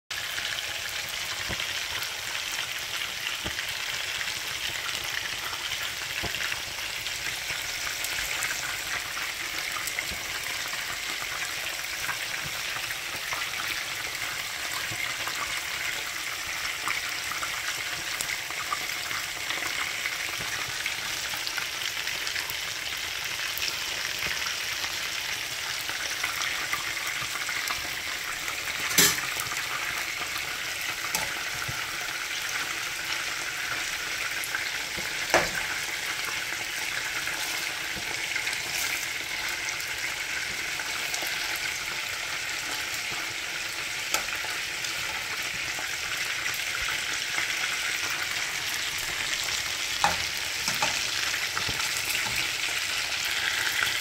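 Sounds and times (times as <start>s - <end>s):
chicken sizzling in hot oil: 0.1s - 54.0s.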